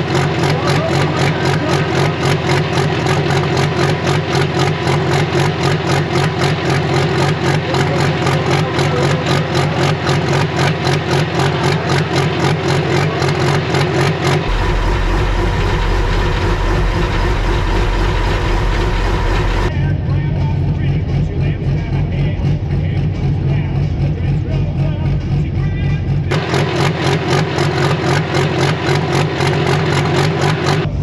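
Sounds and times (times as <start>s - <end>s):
diesel tractor engine idling: 0.0s - 31.0s.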